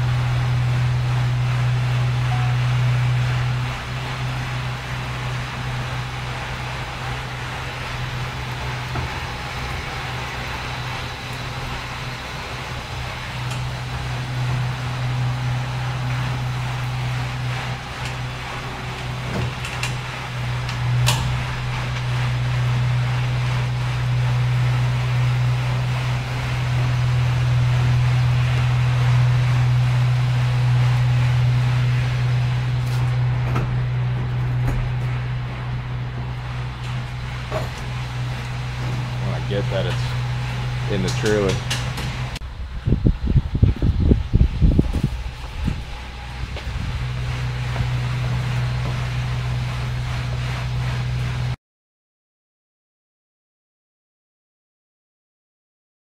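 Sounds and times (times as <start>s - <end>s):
machinery humming: 0.0s - 51.6s.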